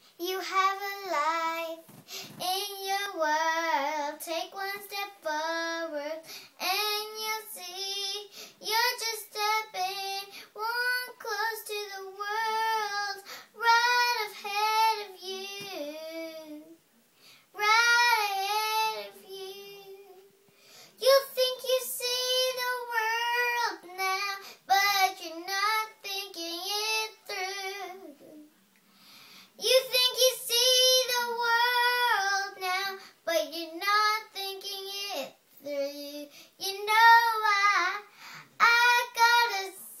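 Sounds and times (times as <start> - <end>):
girl singing: 0.0 - 16.9, 17.5 - 28.5, 29.5 - 40.0.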